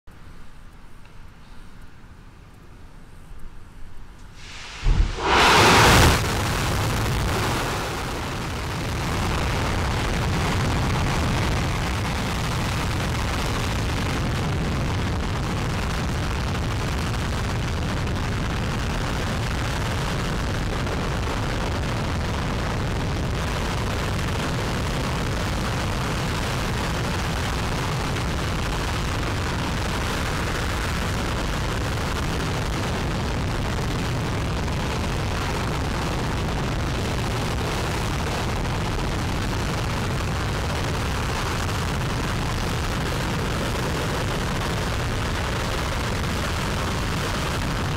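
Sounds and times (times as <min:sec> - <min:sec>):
rocket engine rumble: 0:04.4 - 0:47.9.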